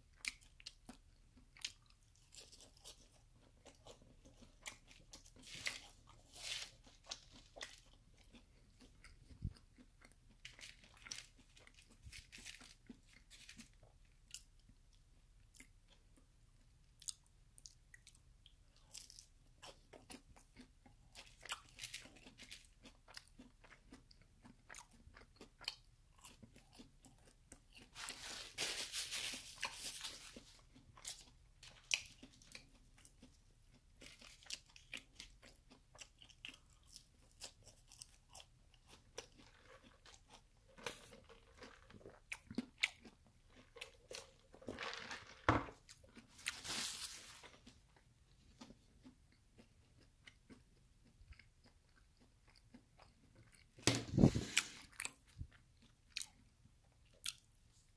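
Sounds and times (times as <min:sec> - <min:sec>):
chewing crispy fried food: 0:00.0 - 0:57.9.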